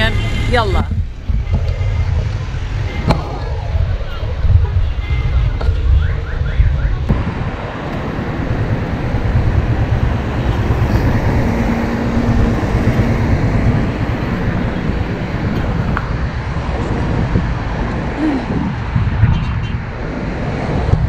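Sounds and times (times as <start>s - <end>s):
city traffic: 0.0s - 21.0s
wind rushing on microphone: 0.0s - 21.0s.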